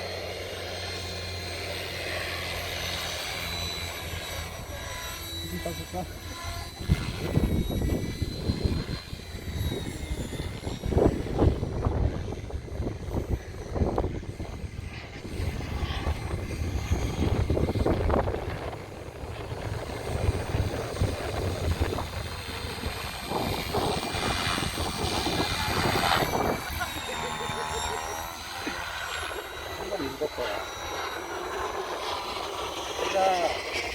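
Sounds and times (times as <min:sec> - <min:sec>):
model helicopter rotor whine: 0:00.0 - 0:33.9.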